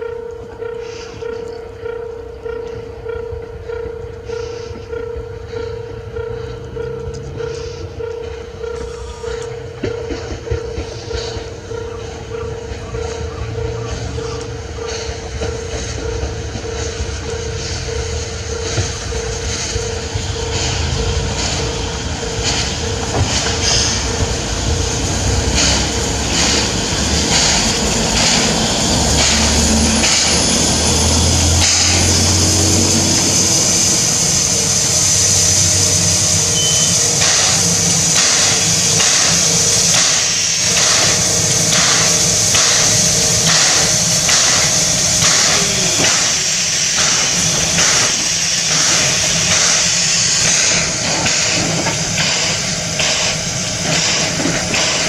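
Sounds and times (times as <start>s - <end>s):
steam locomotive chuffing: 0.0s - 55.0s
steam hissing: 8.7s - 55.0s.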